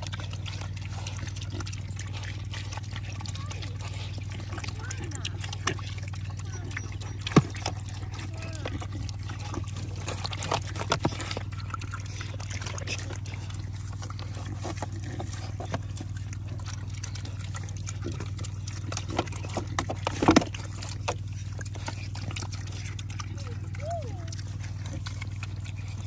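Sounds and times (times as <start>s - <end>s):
pigs slurping and chomping: 0.0s - 26.0s.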